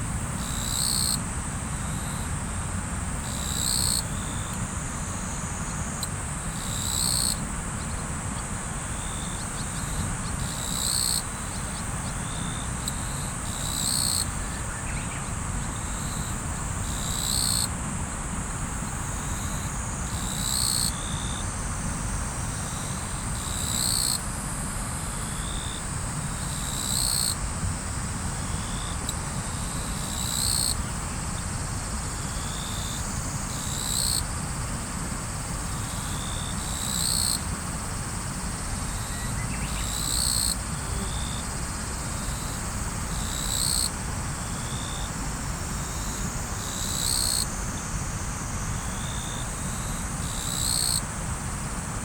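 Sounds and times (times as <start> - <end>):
insect trill: 0.3 - 52.0.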